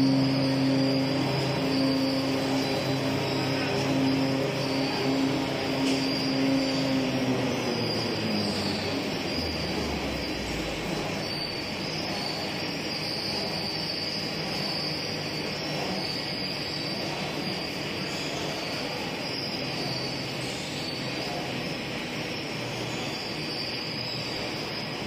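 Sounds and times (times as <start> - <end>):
machinery with high whine: 0.0 - 25.0.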